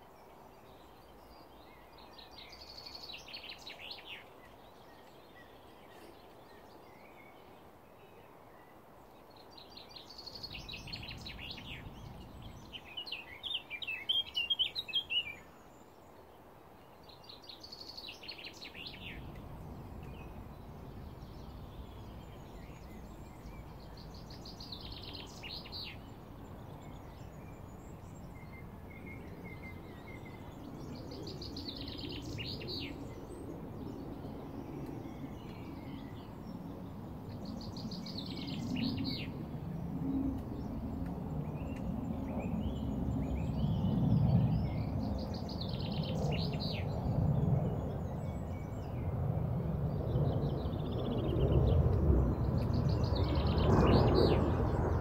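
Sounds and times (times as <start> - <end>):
low rumbling background noise: 0.0 - 55.0.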